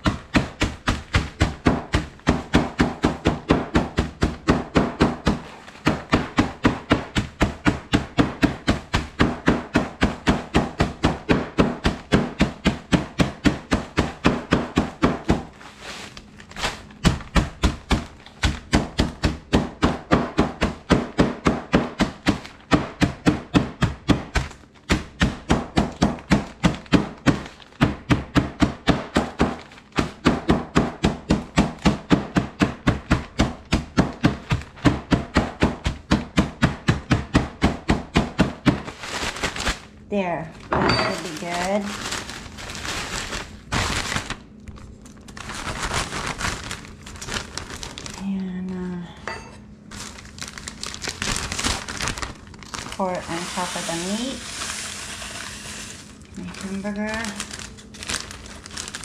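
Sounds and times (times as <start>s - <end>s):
mallet pounding crackers in bag: 0.0s - 49.0s, 49.9s - 59.0s.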